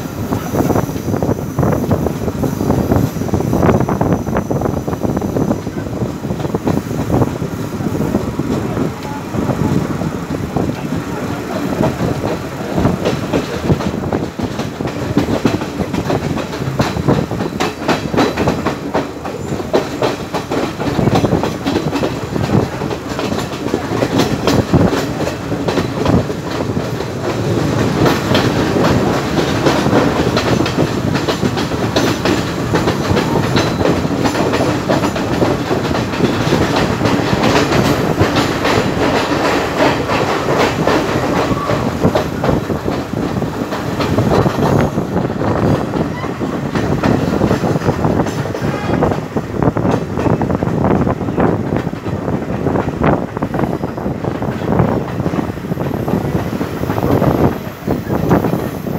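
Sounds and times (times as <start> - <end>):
rush of moving train: 0.0 - 58.9
train wheels clicking over rail joints: 0.0 - 58.9.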